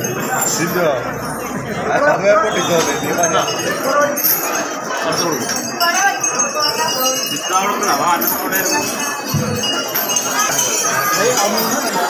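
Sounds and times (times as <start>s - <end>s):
crowd chatter: 0.0s - 12.0s
small metal bells jingling: 0.0s - 12.0s.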